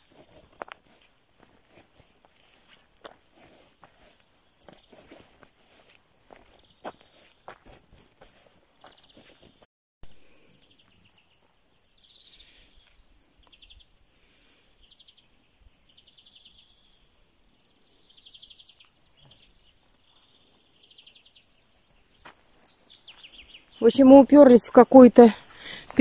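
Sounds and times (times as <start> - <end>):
small birds twittering: 0.0 - 9.6, 10.2 - 26.0.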